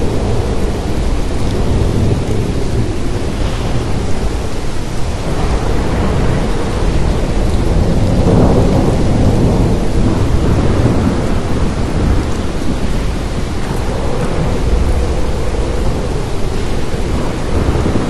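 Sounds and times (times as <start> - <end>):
deep rumble: 0.0 - 18.0
heavy rain: 0.0 - 18.0.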